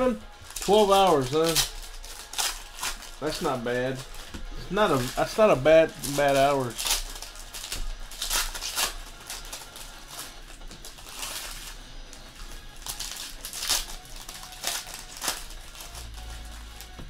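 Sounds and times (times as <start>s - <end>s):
foil wrappers crinkling and tearing: 0.0s - 17.0s.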